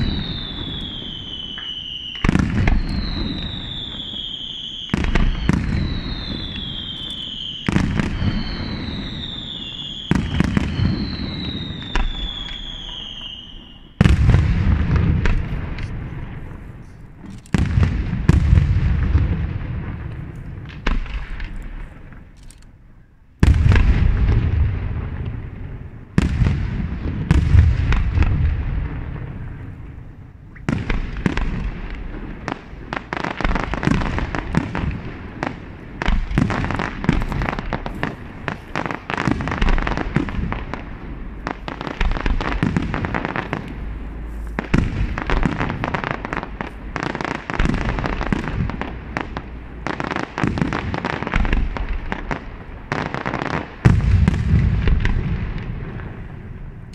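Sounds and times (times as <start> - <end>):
fireworks bangs and crackle: 0.0 - 22.4, 23.3 - 56.9
fireworks booming: 0.0 - 22.4, 23.3 - 56.9.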